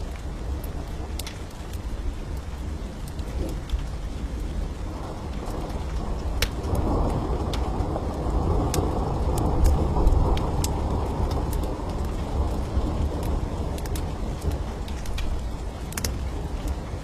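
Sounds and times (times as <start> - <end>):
steady rain: 0.0 - 17.0
wood fire crackling: 0.0 - 17.0
rolling thunder: 2.4 - 17.0.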